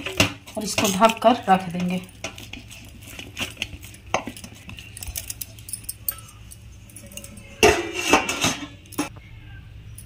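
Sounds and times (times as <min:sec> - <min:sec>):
hands working dough in bowl: 0:00.0 - 0:08.6
metal dishware clattering: 0:00.0 - 0:09.1.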